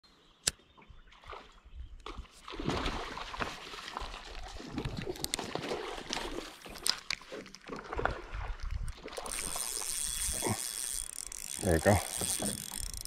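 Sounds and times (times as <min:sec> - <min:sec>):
water splashing and sloshing: 0:00.8 - 0:13.0.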